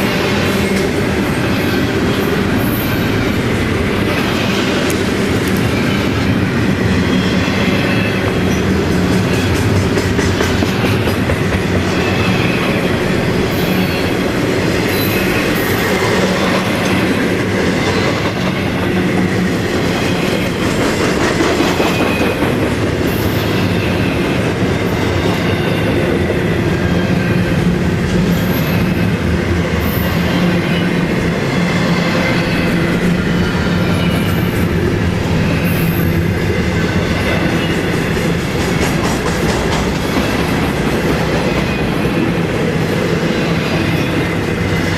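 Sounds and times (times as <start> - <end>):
freight train cars rolling: 0.0 - 44.9
wheels clacking on rails: 0.0 - 44.9.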